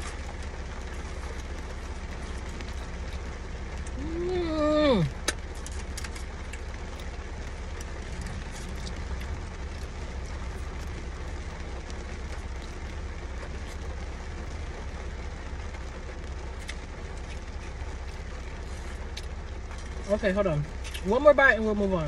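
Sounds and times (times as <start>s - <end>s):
car cabin rumble and hiss: 0.0s - 22.0s.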